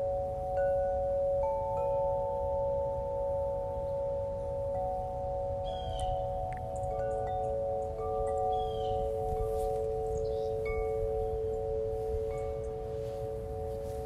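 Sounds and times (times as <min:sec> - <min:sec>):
bell-like chime tones: 0:00.0 - 0:14.0
higher chime notes: 0:00.0 - 0:14.0.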